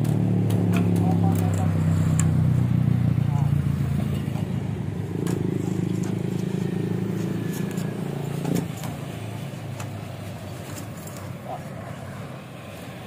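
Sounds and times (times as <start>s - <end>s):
engine humming: 0.0s - 13.0s
faint outdoor background: 0.0s - 13.0s.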